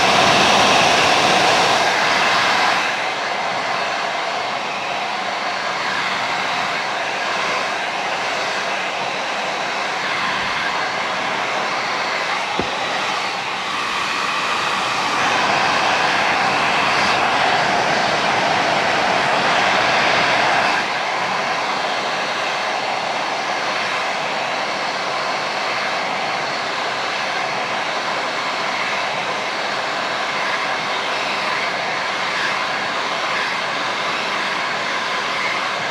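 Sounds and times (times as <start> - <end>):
blow dryer running: 0.0 - 35.9.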